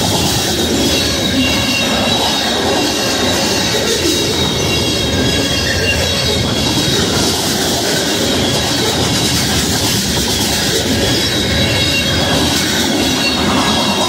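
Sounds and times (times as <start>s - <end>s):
faint high squeal: 0.0s - 14.0s
freight cars rumbling and rattling: 0.0s - 14.0s.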